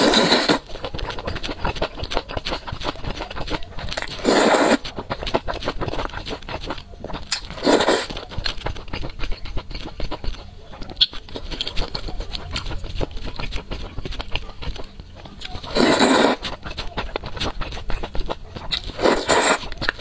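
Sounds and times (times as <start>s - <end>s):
noodles slurped: 0.0s - 20.0s
wet chewing: 0.0s - 20.0s.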